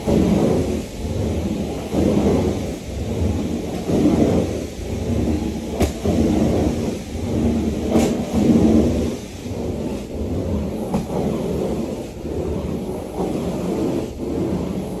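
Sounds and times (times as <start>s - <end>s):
carpet cleaner rumbling surges: 0.0s - 15.0s.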